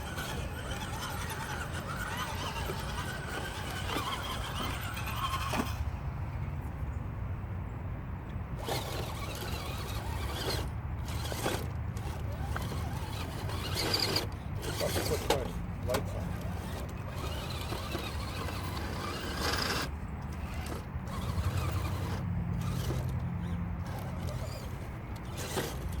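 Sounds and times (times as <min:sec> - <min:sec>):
rc car motor whining: 0:00.0 - 0:06.0, 0:08.6 - 0:26.0.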